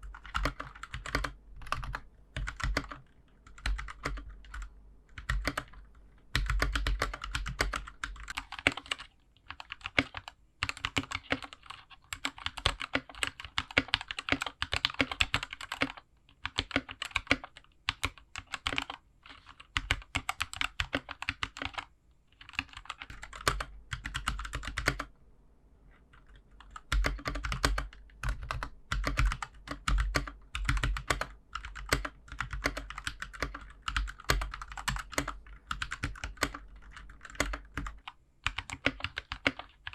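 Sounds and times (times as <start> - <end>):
mechanical keyboard typing: 0.0 - 25.1, 26.1 - 39.9.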